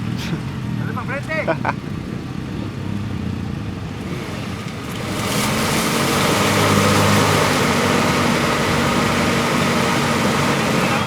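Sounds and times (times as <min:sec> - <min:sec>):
truck engine pulling hard: 0:00.0 - 0:11.0
tyres churning through mud: 0:00.0 - 0:11.0.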